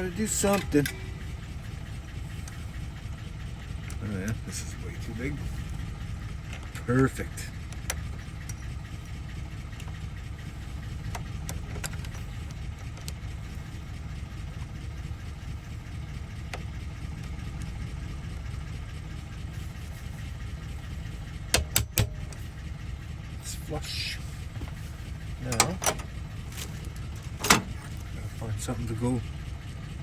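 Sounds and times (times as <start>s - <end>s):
low engine-like hum: 0.0s - 30.0s
light handling clicks: 0.3s - 22.6s, 24.2s - 28.4s.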